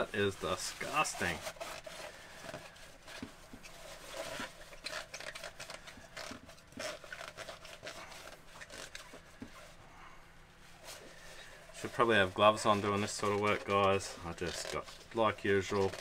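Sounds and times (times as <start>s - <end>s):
paper towel rubbing and crinkling: 0.0s - 9.8s, 10.6s - 16.0s.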